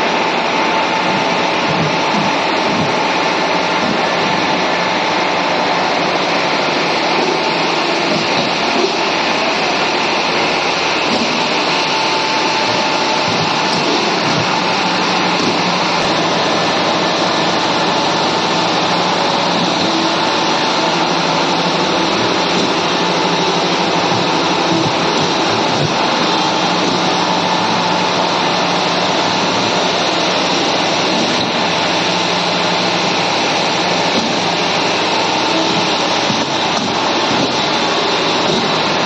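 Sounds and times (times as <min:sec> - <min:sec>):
conveyors and mixer machinery noise: 0:00.0 - 0:39.0.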